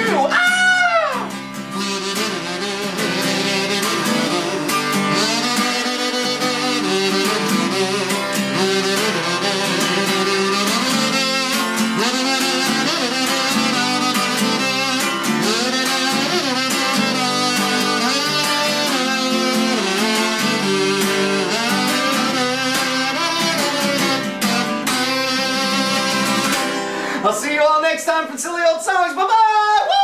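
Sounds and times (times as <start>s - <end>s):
strummed acoustic guitar: 0.0s - 27.5s
kazoo buzzing a melody: 0.1s - 27.2s.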